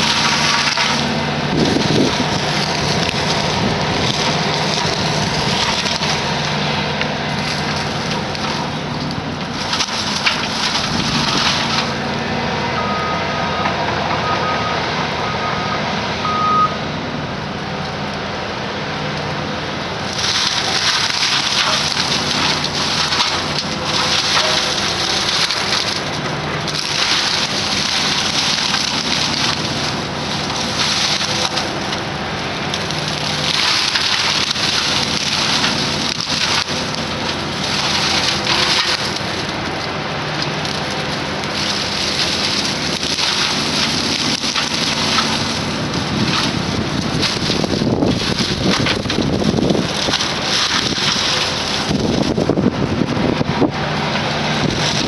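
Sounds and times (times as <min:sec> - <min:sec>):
diesel engine drone: 0:00.0 - 0:55.0
mulching head shredding brush: 0:00.0 - 0:55.0.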